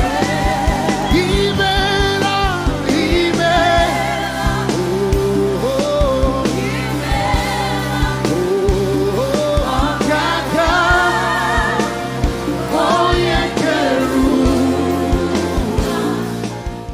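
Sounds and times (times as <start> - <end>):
bass: 0.0 - 16.9
singers holding long notes: 0.0 - 16.9.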